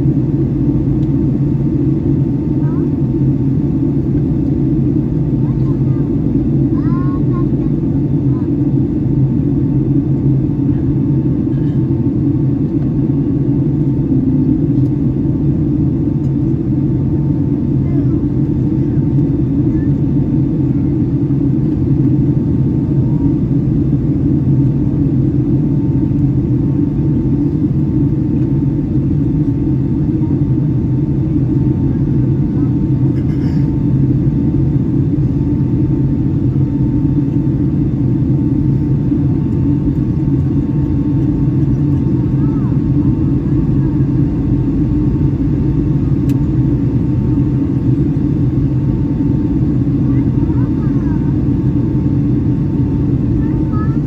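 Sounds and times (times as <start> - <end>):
aircraft cabin engine drone: 0.0 - 54.0.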